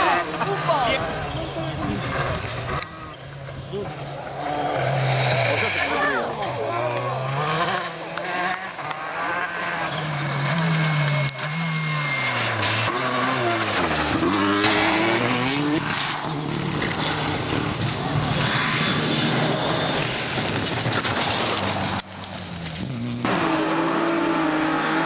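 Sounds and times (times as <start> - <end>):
rally car engine passing: 0.0 - 25.0
second rally car engine running hard: 1.0 - 21.4.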